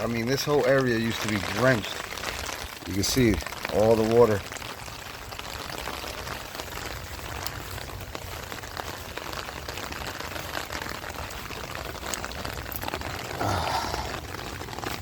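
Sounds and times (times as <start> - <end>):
rainwater running: 0.0 - 15.0.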